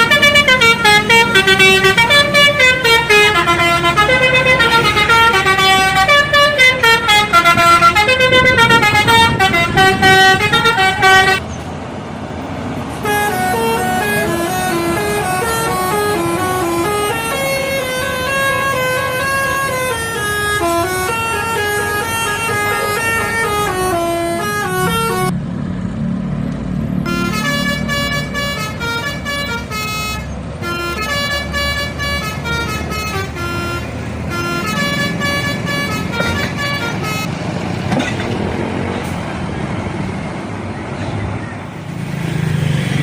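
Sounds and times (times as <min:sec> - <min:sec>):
bus musical horn melody: 0:00.0 - 0:11.4, 0:13.0 - 0:25.3, 0:27.0 - 0:38.4
engine running: 0:00.0 - 0:43.0
traffic noise: 0:00.0 - 0:43.0.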